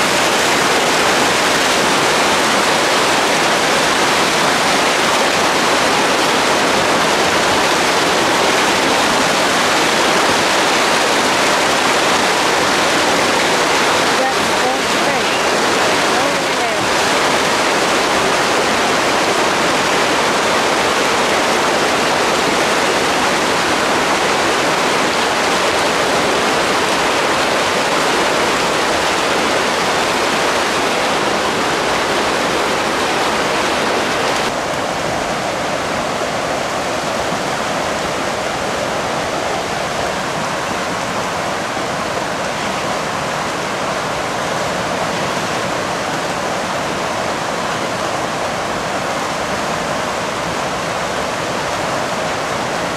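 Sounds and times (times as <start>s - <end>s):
shallow river water rushing: 0.0s - 52.9s.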